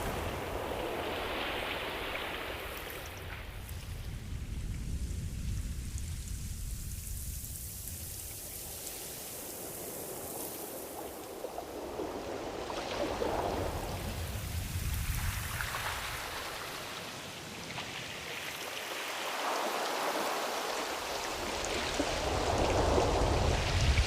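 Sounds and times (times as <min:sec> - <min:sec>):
ocean surf rushing: 0:00.0 - 0:05.9, 0:08.3 - 0:24.0.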